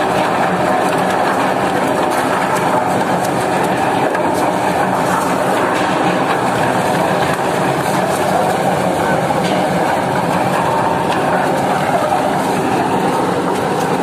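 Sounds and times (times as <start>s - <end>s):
debarking machine clattering: 0.0s - 14.0s.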